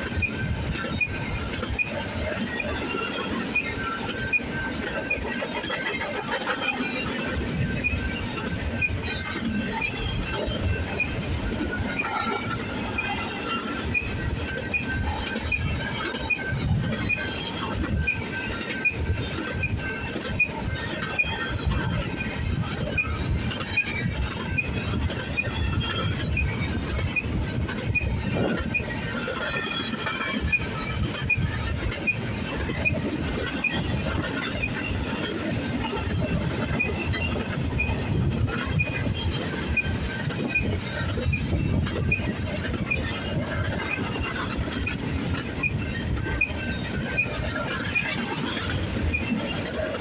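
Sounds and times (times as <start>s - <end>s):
high-pitched wheel squeals: 0.0s - 50.0s
steel wheels rumbling on rail: 0.0s - 50.0s.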